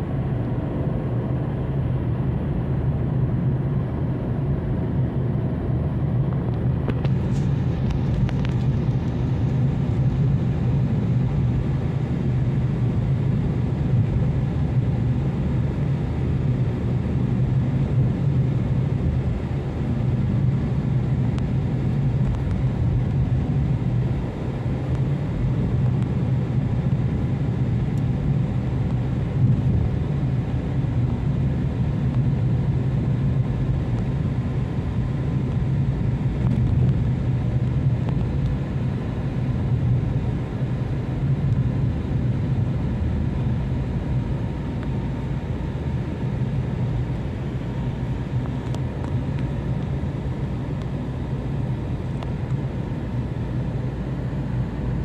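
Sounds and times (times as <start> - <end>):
car cabin engine and road noise: 0.0 - 55.0.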